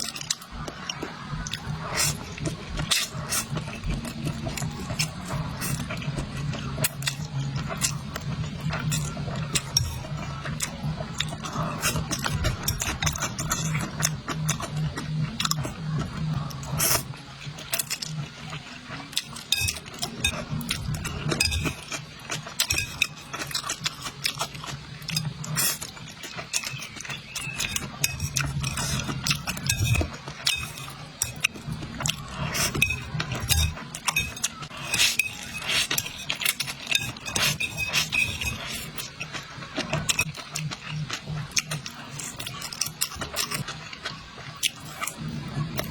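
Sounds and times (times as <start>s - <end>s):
utensils clinking against bowl: 1.0s - 45.9s.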